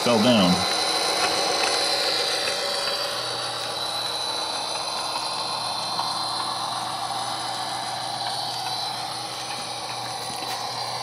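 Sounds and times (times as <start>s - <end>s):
model locomotive whining drone: 0.0s - 11.0s.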